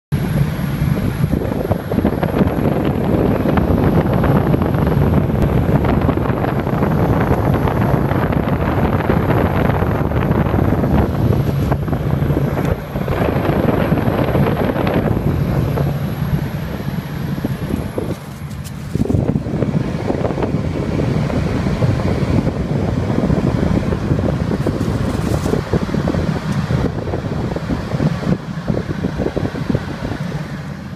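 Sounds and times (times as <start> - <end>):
exhaust fans rushing air: 0.1 - 30.9
low hum: 0.1 - 30.9.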